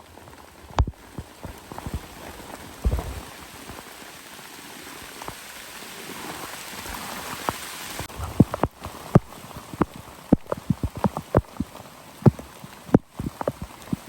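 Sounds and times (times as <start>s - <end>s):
heavy rain on a tent: 0.0s - 14.0s.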